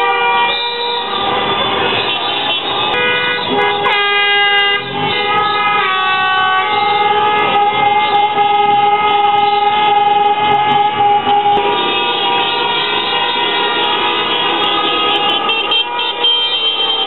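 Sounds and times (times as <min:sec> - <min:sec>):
car horns sounding: 0:00.0 - 0:17.0.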